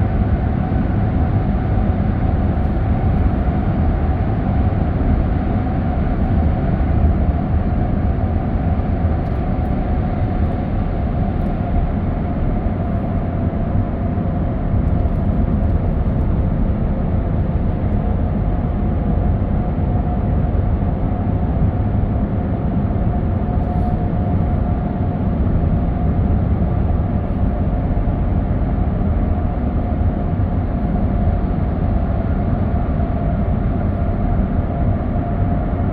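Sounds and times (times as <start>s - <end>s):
faint steady whine: 0.0s - 35.9s
road and tyre rumble: 0.0s - 35.9s.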